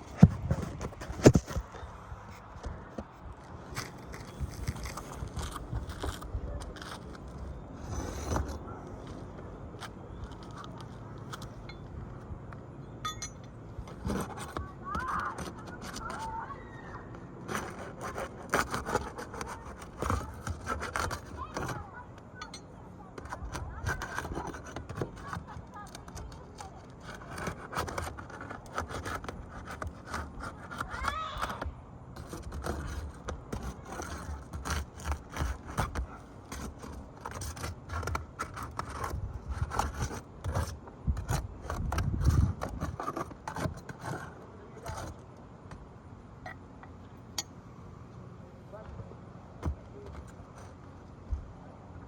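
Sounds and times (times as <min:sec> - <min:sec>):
scraping and rubbing on shingle roof: 0:00.0 - 0:46.4, 0:48.2 - 0:52.0.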